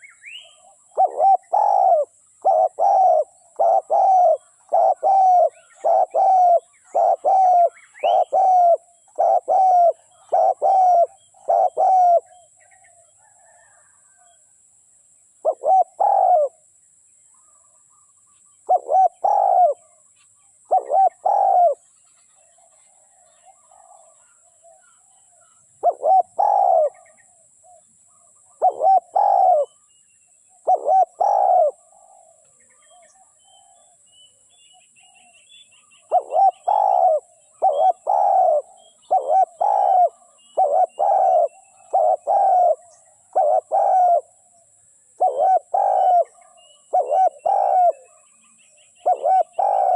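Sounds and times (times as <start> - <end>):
small birds chirping: 0.0 - 13.7, 15.4 - 49.9
dove cooing: 0.0 - 14.4, 15.4 - 16.6, 18.6 - 20.0, 20.7 - 29.8, 30.5 - 34.0, 35.1 - 49.9.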